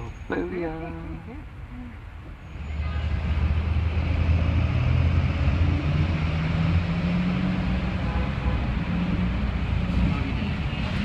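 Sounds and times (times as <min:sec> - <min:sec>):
tyre and traffic rush: 0:00.0 - 0:11.0.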